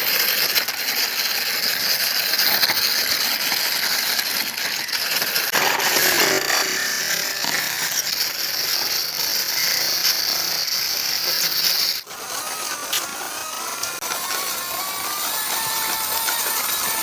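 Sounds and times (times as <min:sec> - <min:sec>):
geared mechanism ratcheting and whirring: 0:00.0 - 0:17.0.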